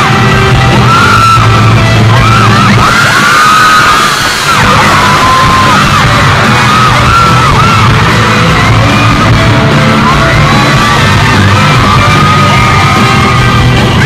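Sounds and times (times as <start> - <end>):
fans screaming and whooping: 0.0 - 14.0
live rock band playing: 0.0 - 14.0.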